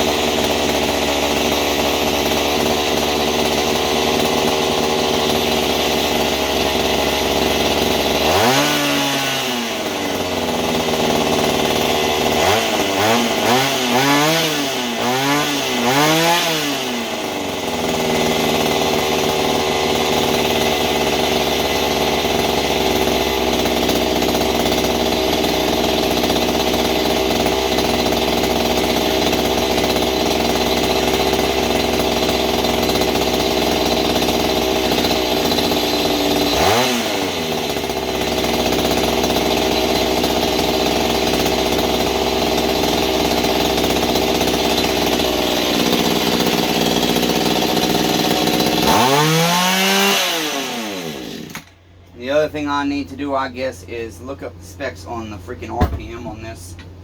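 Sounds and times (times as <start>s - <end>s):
small tiller engine revving: 0.0s - 57.0s.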